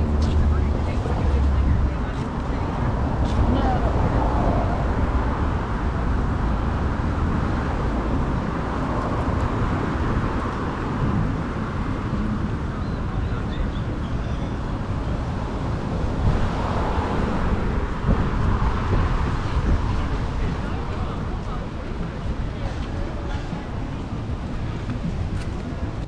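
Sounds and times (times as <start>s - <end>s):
car traffic passing: 0.0s - 26.0s.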